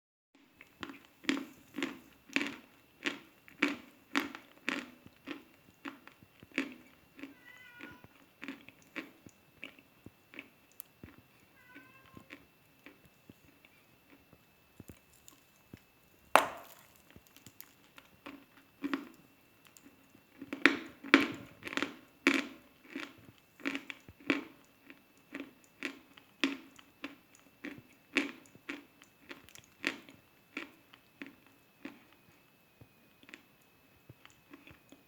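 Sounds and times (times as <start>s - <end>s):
chalk crunching while chewed: 0.6s - 7.3s, 8.4s - 11.2s, 12.3s - 32.2s, 33.2s - 33.5s, 34.1s - 35.0s.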